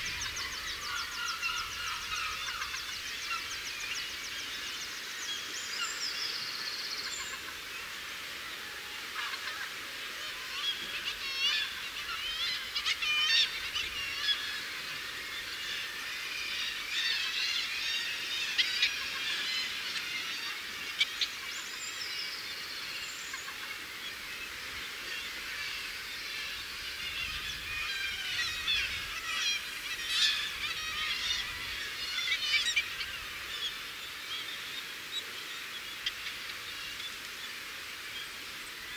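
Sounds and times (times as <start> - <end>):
seabirds calling: 0.0 - 38.9.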